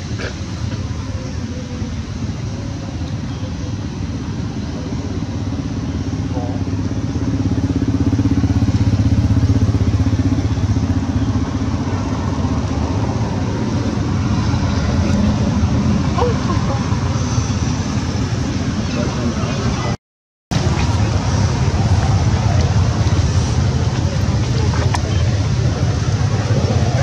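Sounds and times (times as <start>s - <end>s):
engine running low hum: 0.0s - 27.0s.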